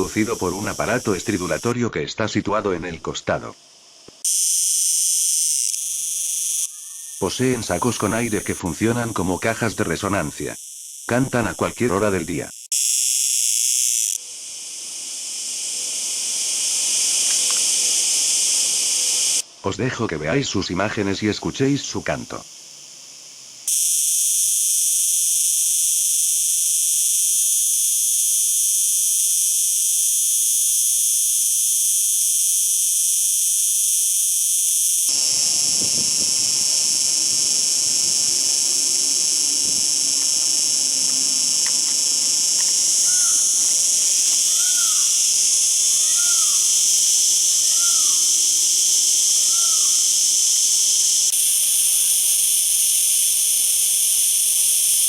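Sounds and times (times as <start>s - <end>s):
cicada buzzing: 0.0s - 1.8s, 3.5s - 19.7s, 20.6s - 55.0s.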